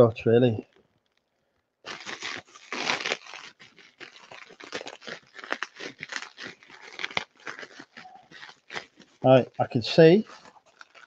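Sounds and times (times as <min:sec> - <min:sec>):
bubble wrap crinkling: 0:00.6 - 0:11.0.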